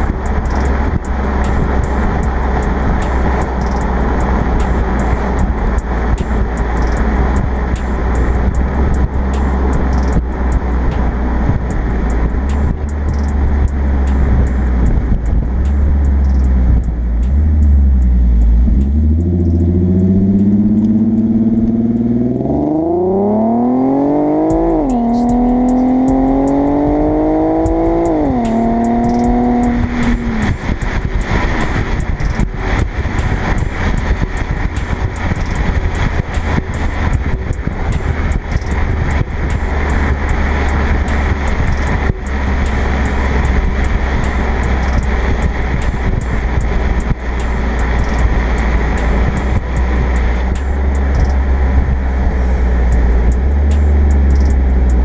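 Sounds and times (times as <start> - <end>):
car exhaust note: 0.0 - 55.0
wind and road noise rumble: 0.0 - 55.0.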